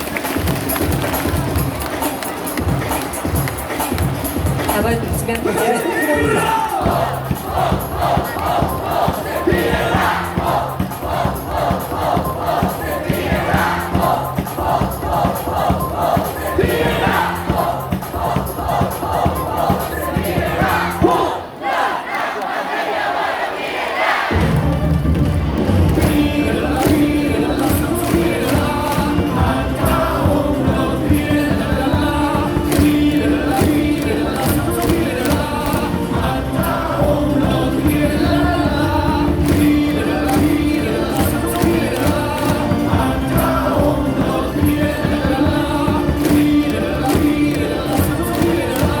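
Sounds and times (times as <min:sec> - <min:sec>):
stadium loudspeaker music: 0:00.0 - 0:23.6, 0:24.2 - 0:49.0
crowd singing along: 0:00.0 - 0:49.0.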